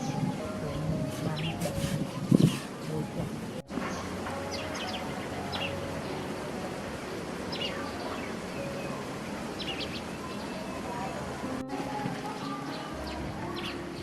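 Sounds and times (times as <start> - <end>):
outdoor background noise: 0.0 - 14.0
small birds chirping: 0.0 - 14.0.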